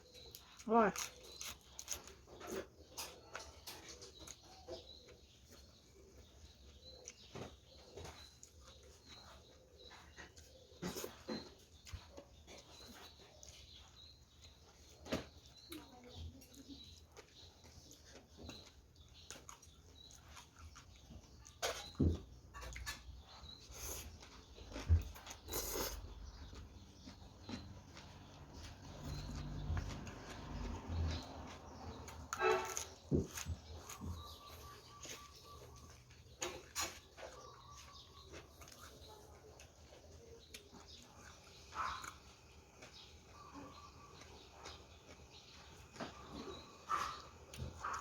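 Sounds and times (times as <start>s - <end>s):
person chewing food: 0.0s - 15.9s, 16.5s - 48.0s.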